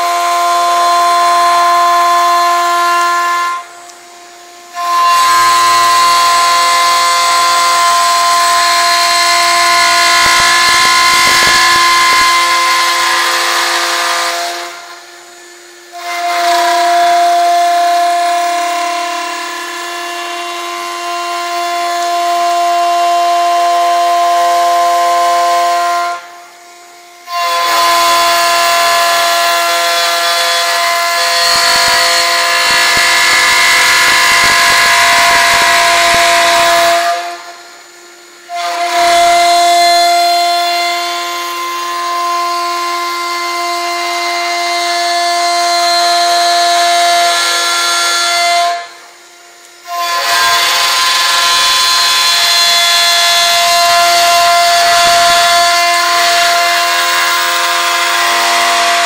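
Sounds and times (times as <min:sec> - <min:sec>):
high-pitched machine whine: 0:00.0 - 0:59.0
wood cutting hiss: 0:00.0 - 0:59.0.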